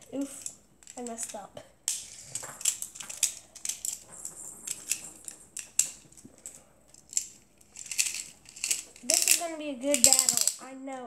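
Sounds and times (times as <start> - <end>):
small plastic clicks and rattles: 0.2 - 10.6.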